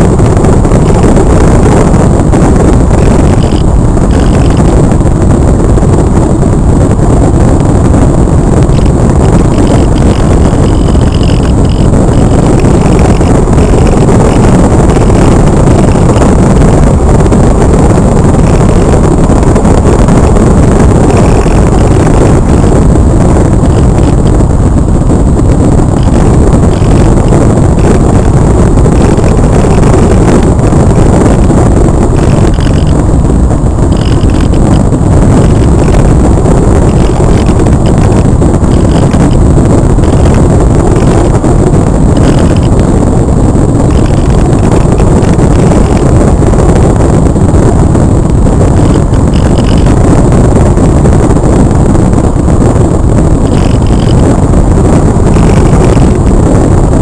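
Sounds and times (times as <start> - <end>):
wind rushing on microphone: 0.0 - 57.0.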